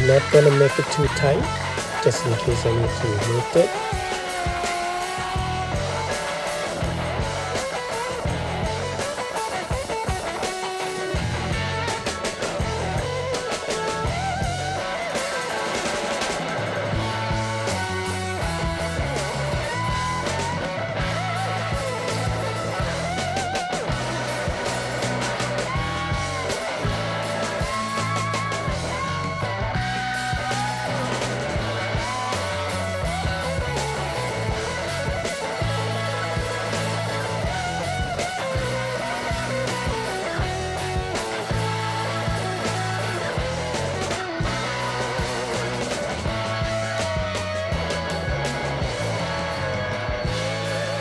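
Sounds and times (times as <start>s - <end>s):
guitar-led rock music: 0.0s - 51.0s.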